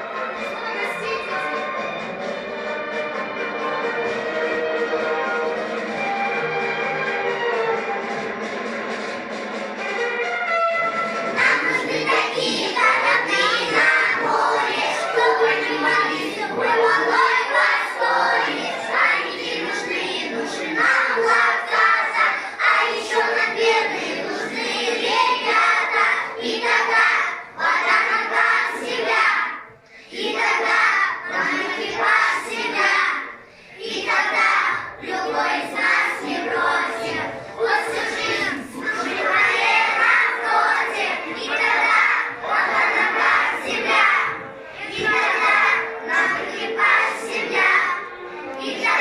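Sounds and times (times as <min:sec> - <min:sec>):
children singing in chorus: 0:00.0 - 0:02.2, 0:11.2 - 0:49.0
musical accompaniment: 0:00.0 - 0:49.0.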